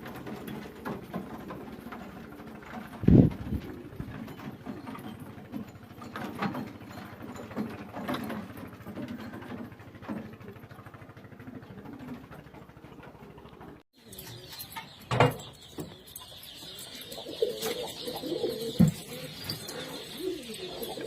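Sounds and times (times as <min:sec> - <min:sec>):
small motor rattling: 0:00.0 - 0:21.0.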